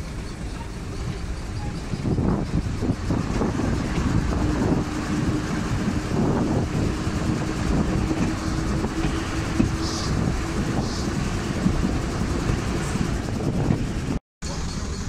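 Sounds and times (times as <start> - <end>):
train wheels rumbling on rails: 0.0 - 15.0
steady low hum: 0.1 - 15.0.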